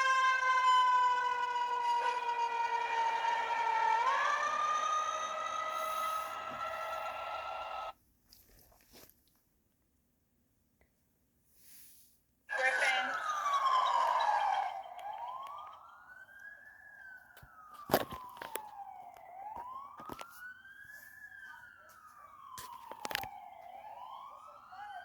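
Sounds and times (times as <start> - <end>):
emergency siren wailing: 0.0 - 7.9, 12.5 - 25.0.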